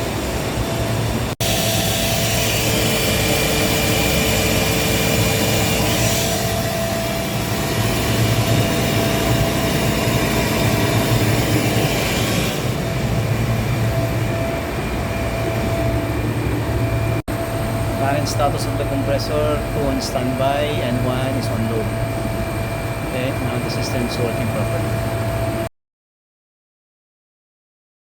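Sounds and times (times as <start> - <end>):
air compressor hum: 0.0 - 25.7.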